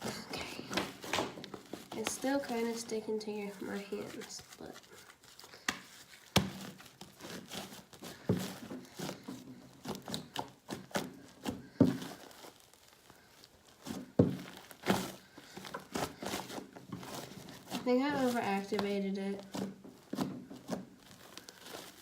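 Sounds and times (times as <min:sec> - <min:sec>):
slime squelching and tearing: 0:00.0 - 0:22.0.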